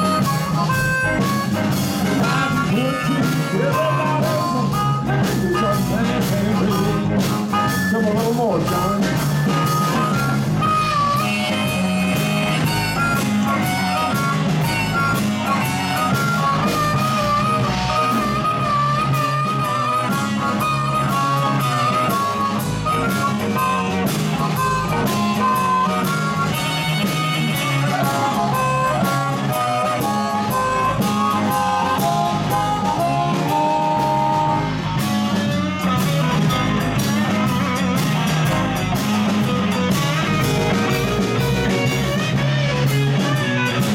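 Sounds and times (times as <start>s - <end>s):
amplified harmonica: 0.0s - 43.9s
drum kit: 0.0s - 43.9s
electric guitars: 0.0s - 43.9s.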